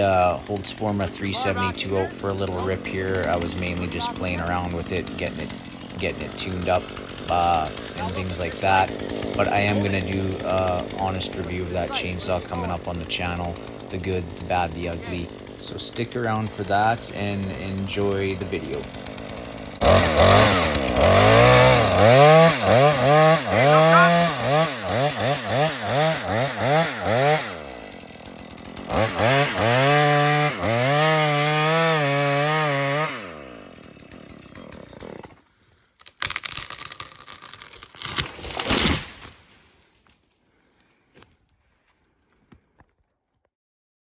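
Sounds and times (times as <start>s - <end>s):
chainsaw revving: 0.0s - 35.4s.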